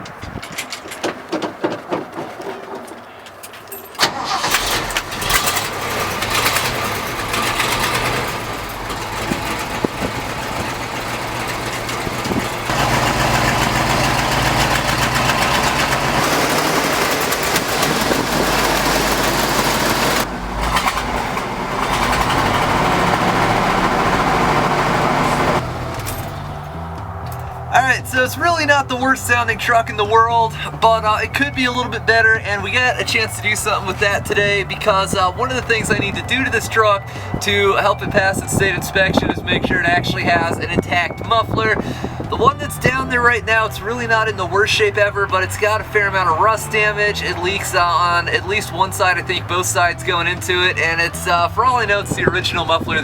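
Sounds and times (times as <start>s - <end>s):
truck engine starting and revving: 4.0s - 53.0s.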